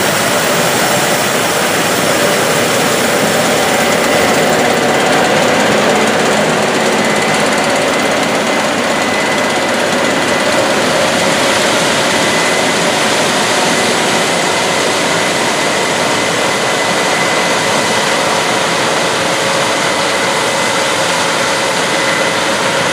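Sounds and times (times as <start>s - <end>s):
combine harvester running: 0.0s - 22.9s
high-pitched whine: 0.0s - 22.9s.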